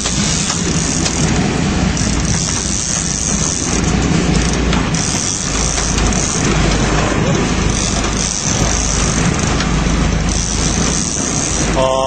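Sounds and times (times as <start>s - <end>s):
boat engine running: 0.0s - 12.0s
loud rushing noise: 0.0s - 12.0s.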